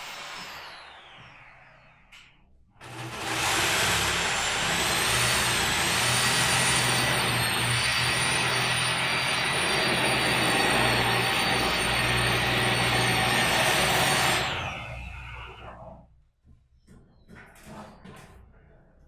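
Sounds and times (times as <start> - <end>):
machine whining and spinning down: 0.0 - 16.0.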